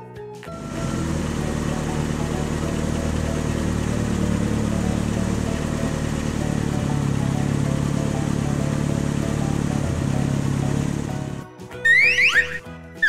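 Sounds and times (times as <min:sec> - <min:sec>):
toy car engine hum: 0:00.5 - 0:11.4.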